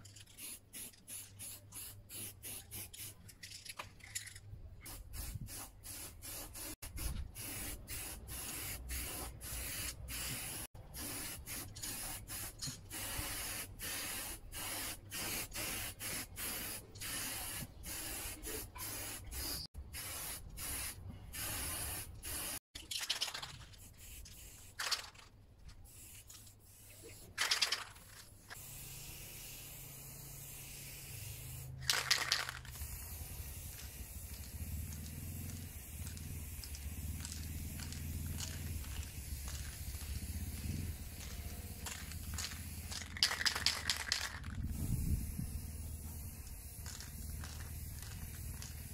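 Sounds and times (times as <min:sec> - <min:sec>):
spray paint can hissing: 0:00.1 - 0:03.6, 0:04.8 - 0:48.9.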